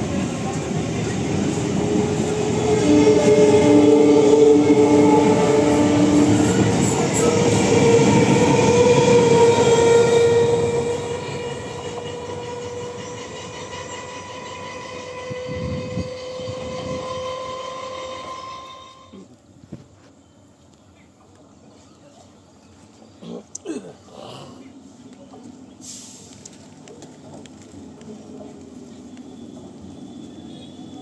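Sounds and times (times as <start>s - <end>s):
train coaches rolling past: 0.0s - 23.1s, 24.7s - 31.0s.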